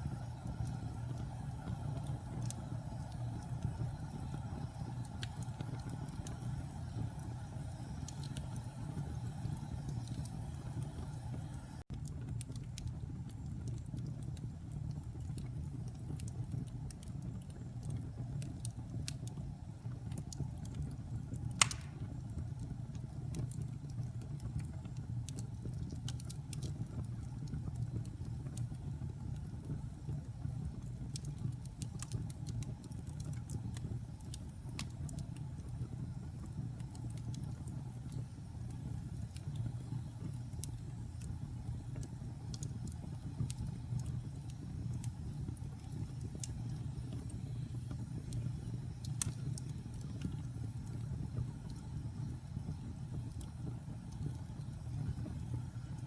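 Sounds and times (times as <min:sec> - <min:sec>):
fire popping: 0:00.0 - 0:56.0
fire rumbling with crackles: 0:00.0 - 0:56.0.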